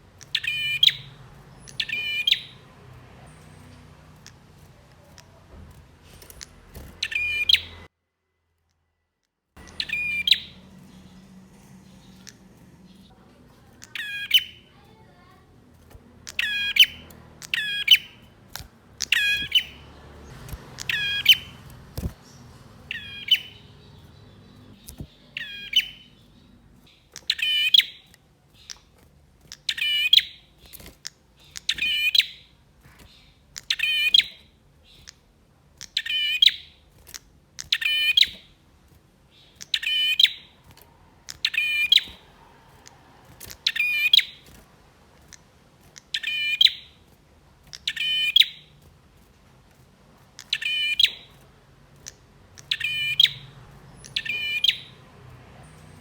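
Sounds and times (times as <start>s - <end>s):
songbird calling: 0.0s - 5.5s, 6.1s - 7.9s, 9.6s - 28.9s, 29.5s - 35.2s, 35.8s - 38.6s, 39.3s - 44.6s, 45.3s - 47.0s, 47.7s - 48.8s, 50.3s - 56.0s.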